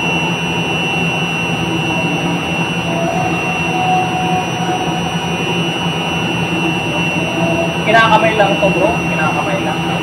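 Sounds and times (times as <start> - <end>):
high-pitched whine: 0.0 - 10.0
industrial machinery drone: 0.0 - 10.0
low hum: 0.0 - 10.0.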